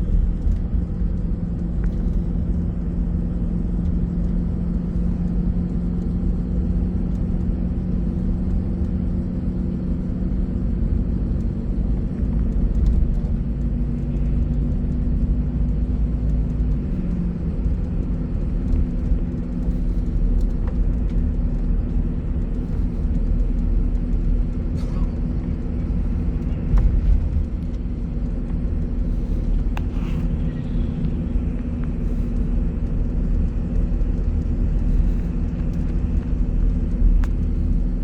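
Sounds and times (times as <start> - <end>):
bus engine running: 0.0 - 38.0
low road rumble: 0.0 - 38.0.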